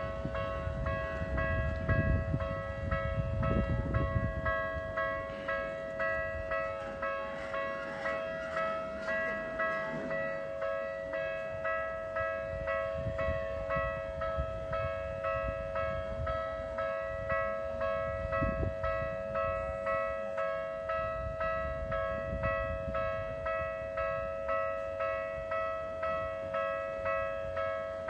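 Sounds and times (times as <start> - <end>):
train rumble: 0.0 - 24.5
level crossing alarm ringing: 0.0 - 28.0.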